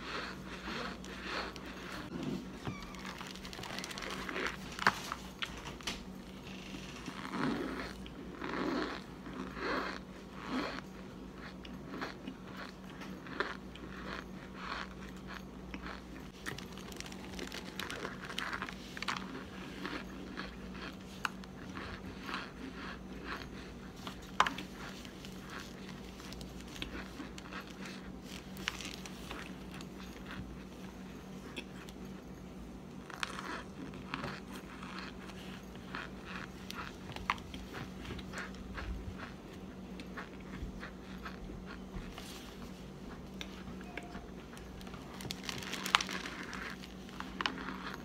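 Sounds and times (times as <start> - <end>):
crunchy chewing: 0.0 - 48.0.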